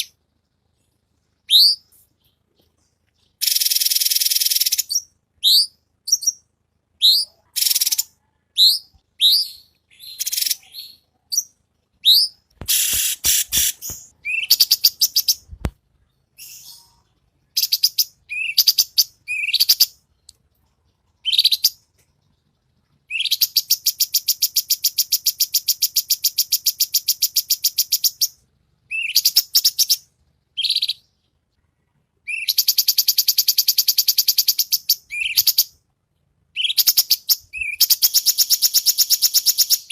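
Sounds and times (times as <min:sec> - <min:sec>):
bird singing whistled notes: 0:01.4 - 0:02.4, 0:03.2 - 0:15.6, 0:16.3 - 0:20.0, 0:21.2 - 0:21.8, 0:23.1 - 0:31.2, 0:32.2 - 0:35.8, 0:36.5 - 0:39.9
rapid buzzy bird trills: 0:01.4 - 0:20.1, 0:21.2 - 0:31.3, 0:36.5 - 0:39.9.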